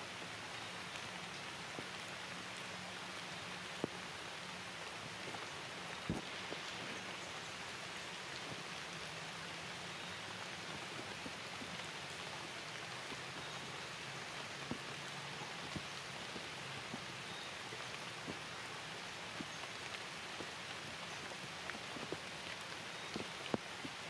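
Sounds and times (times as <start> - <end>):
steady rain falling: 0.0 - 24.0
raindrops tapping on surfaces: 0.1 - 24.0.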